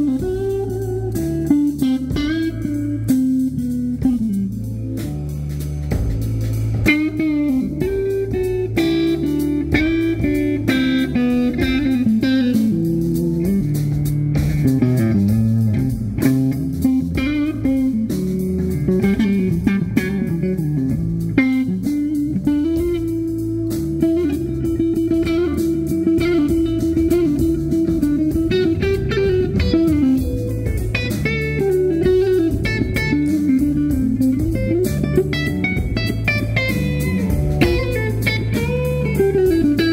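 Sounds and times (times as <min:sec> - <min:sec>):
drums: 0:00.0 - 0:39.9
heavy bass line: 0:00.0 - 0:39.9
lead electric guitar: 0:00.0 - 0:39.9.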